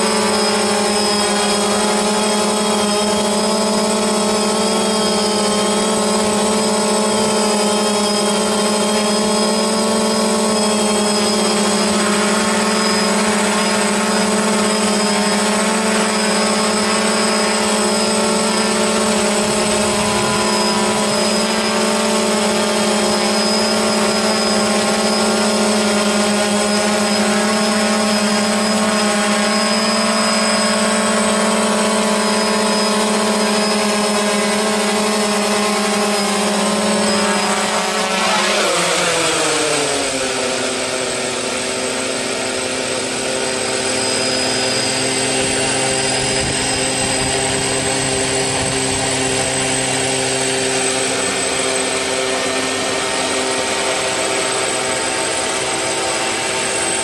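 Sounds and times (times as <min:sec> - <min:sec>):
quadcopter propellers humming: 0:00.0 - 0:57.0.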